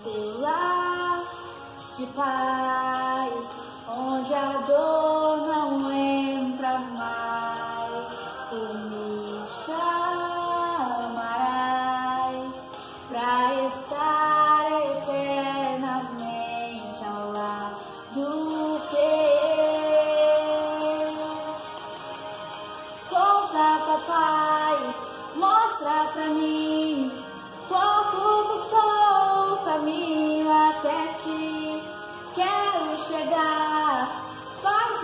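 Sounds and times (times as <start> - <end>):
woman singing: 0.0 - 22.2, 22.9 - 35.0.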